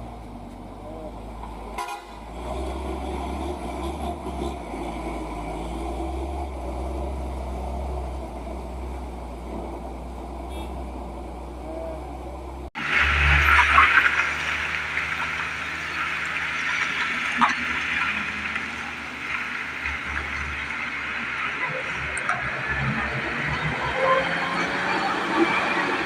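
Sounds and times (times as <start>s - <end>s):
truck engine droning: 0.0s - 26.0s.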